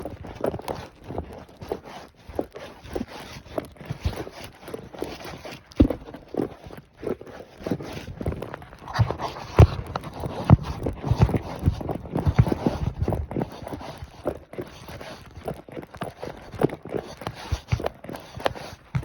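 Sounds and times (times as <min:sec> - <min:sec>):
horse hooves striking ground: 0:00.0 - 0:19.0.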